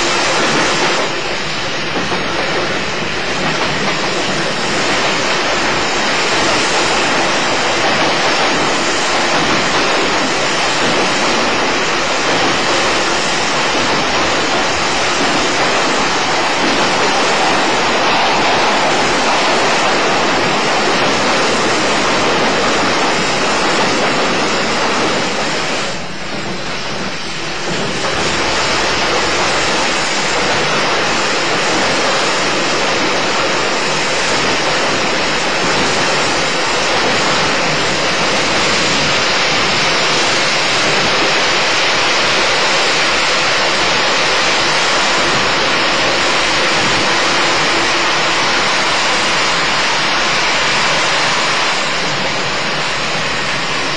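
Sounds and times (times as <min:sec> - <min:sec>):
electric train running: 0:00.0 - 0:53.9.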